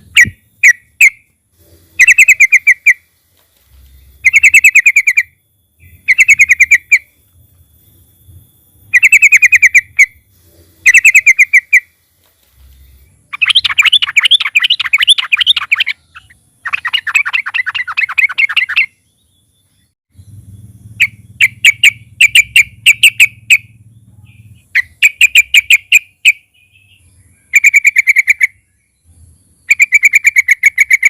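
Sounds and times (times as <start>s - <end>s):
bird chattering: 0.0s - 3.2s, 3.8s - 7.2s, 8.9s - 12.0s, 12.6s - 19.0s, 20.2s - 28.8s, 29.6s - 31.0s
bulbul calling: 0.0s - 8.1s, 8.8s - 31.0s.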